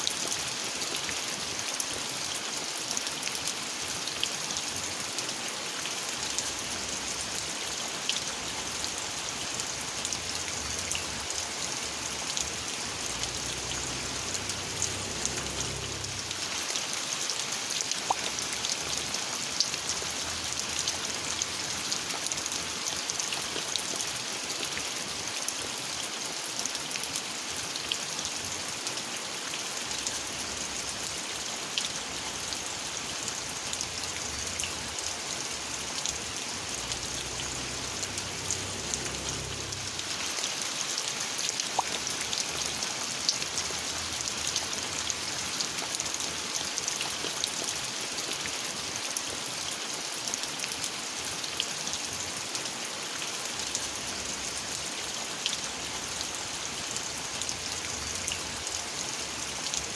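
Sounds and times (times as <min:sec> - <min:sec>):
rain drops ticking: 0:00.0 - 0:59.9.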